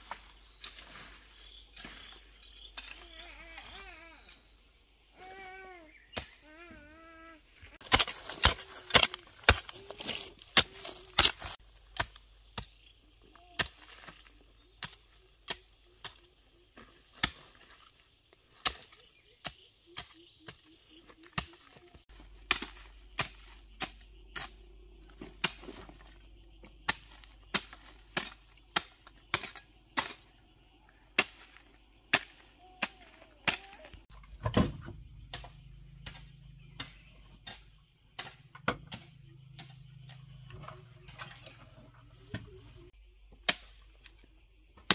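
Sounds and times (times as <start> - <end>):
hand tool chopping soil: 7.7 - 44.2.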